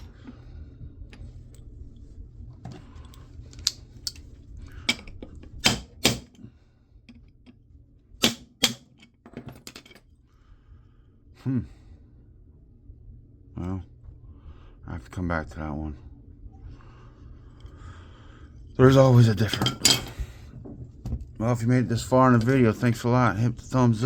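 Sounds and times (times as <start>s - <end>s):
low hum: 0.0s - 8.6s, 9.8s - 24.0s.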